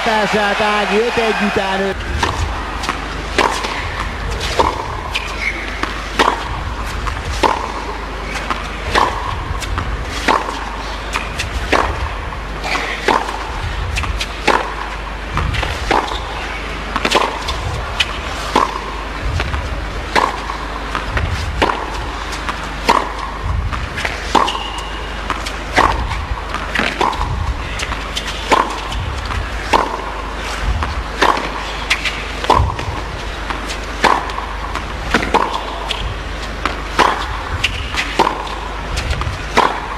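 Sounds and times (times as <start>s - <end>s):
tennis ball struck by racquets: 0.0s - 39.9s.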